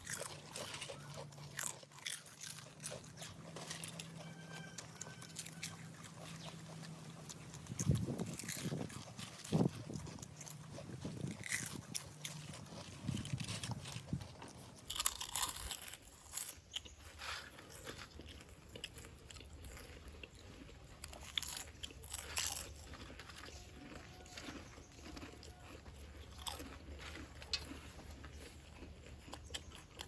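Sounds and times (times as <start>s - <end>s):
people crunching potato chips: 0.0s - 30.0s.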